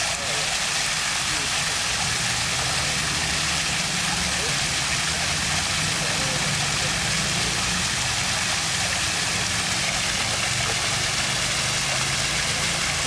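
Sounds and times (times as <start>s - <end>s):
water stream rushing: 0.0s - 13.0s.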